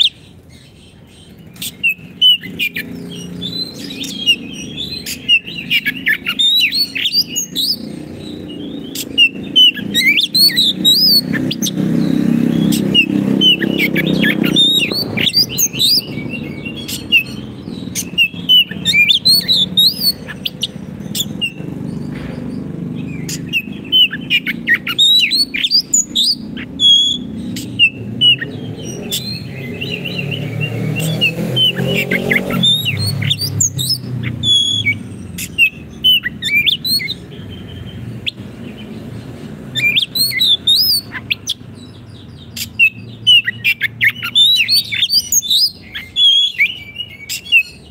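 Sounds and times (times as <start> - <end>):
songbird whistling and chirping: 0.0 - 47.9.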